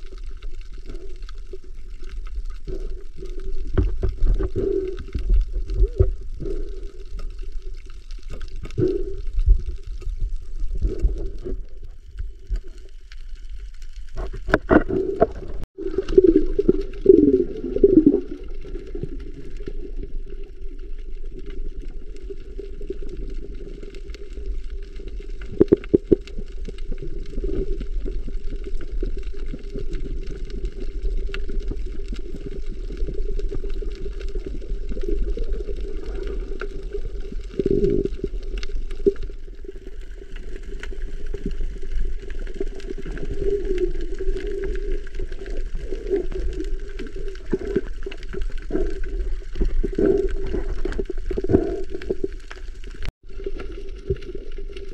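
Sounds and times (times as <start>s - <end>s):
water sloshing underwater: 0.0s - 54.9s.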